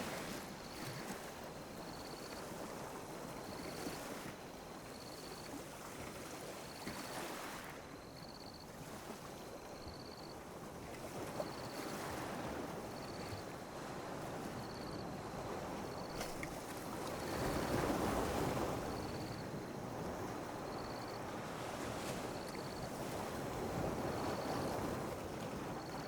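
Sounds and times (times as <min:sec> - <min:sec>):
small waves lapping on a beach: 0:00.0 - 0:26.0.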